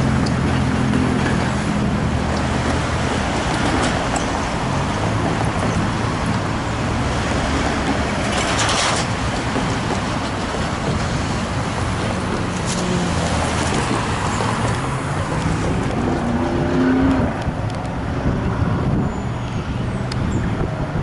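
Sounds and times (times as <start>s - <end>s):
road traffic driving past: 0.0s - 21.0s.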